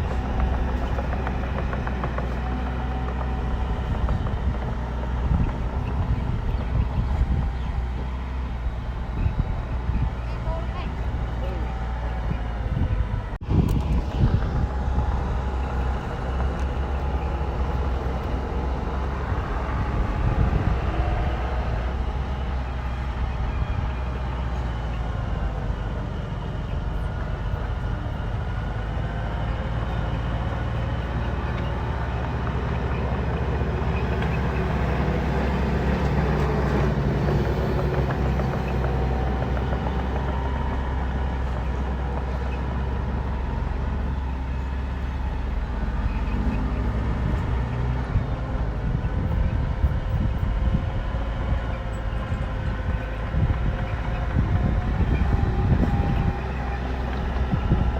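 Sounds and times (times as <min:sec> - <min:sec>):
bulldozer diesel engine running: 0:00.0 - 0:57.9
engine whine: 0:00.0 - 0:57.9.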